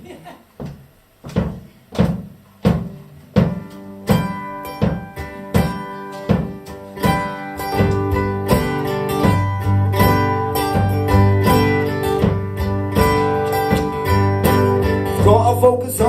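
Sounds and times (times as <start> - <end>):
sharp percussive strikes: 1.4 - 15.5
acoustic guitar playing: 2.2 - 16.0.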